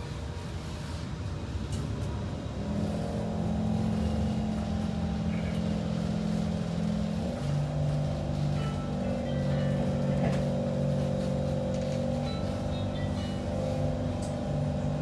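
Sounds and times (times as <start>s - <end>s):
train car rumble: 0.0s - 15.0s.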